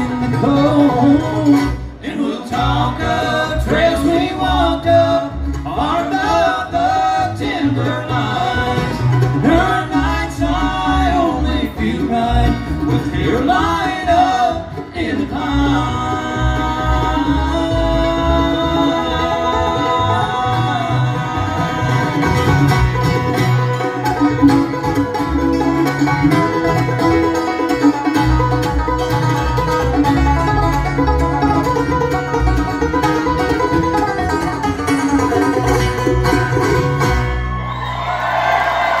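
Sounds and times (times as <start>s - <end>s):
bluegrass band playing: 0.0s - 39.0s.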